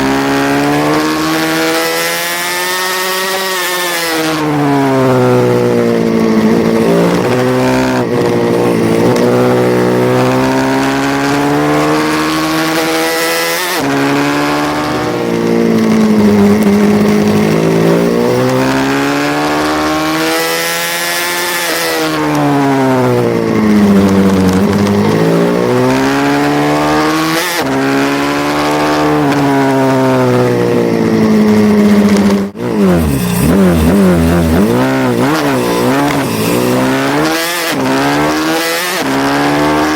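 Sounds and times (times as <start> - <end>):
pit bike engine revving: 0.0 - 39.9
several engines revving together: 0.0 - 39.9.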